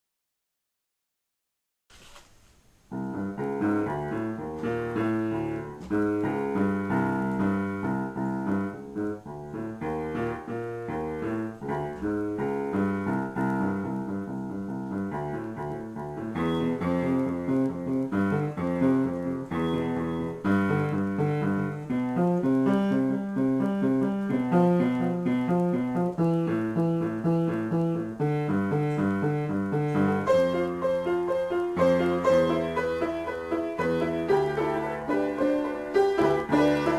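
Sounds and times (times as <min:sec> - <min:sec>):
solo piano improvisation: 0:02.8 - 0:36.9.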